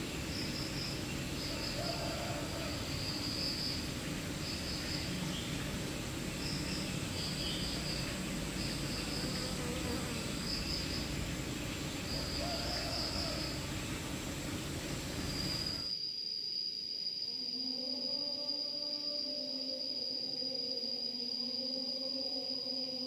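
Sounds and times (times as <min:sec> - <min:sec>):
insects chirping in trills: 0:00.0 - 0:18.8
continuous high insect trill: 0:00.0 - 0:23.0.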